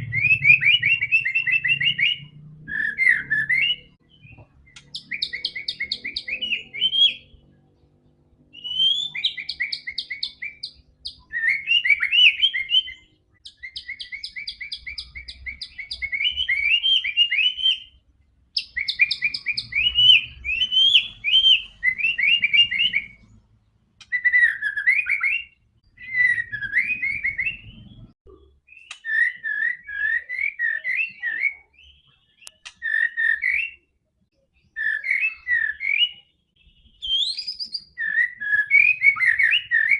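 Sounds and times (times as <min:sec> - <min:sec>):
songbird trills and whistles: 0:00.0 - 0:07.5, 0:08.5 - 0:23.4, 0:24.0 - 0:39.9.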